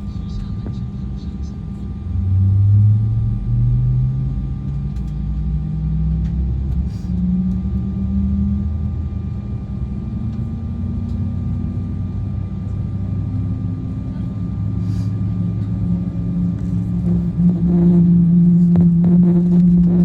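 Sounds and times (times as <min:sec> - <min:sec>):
jet engines rumbling from cabin: 0:00.0 - 0:20.0.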